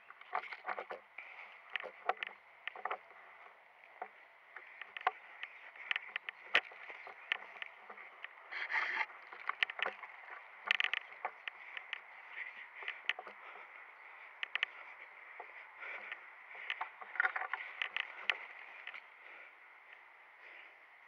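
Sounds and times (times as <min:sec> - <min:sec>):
footsteps in undergrowth: 0:00.0 - 0:20.6
twigs snapping: 0:00.2 - 0:19.1.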